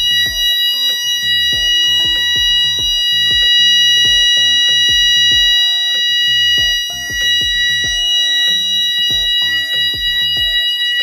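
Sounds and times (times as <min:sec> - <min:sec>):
background music with bass line: 0:00.0 - 0:11.0
fire alarm steady high tone: 0:00.0 - 0:11.0.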